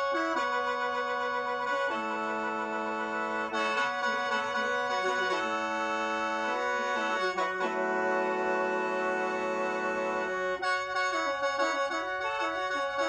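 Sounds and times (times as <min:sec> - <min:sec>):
mouth organ chords over a drone: 0:00.0 - 0:13.0.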